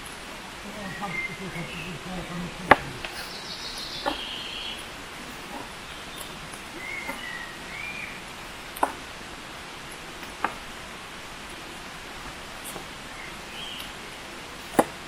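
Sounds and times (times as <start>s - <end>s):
background hiss: 0.0s - 15.0s
small birds calling: 0.0s - 15.0s.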